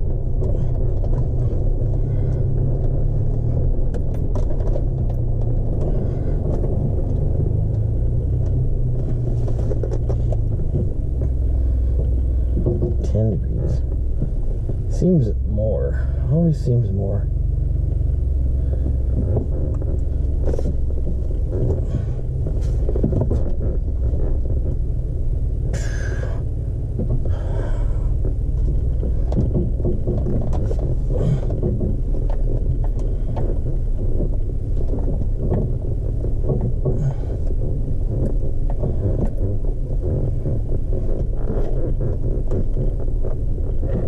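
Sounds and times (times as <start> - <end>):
small knocks and clicks: 0.0 - 14.9, 17.6 - 25.0, 26.9 - 44.0
engine and tyres rumbling: 0.0 - 44.0.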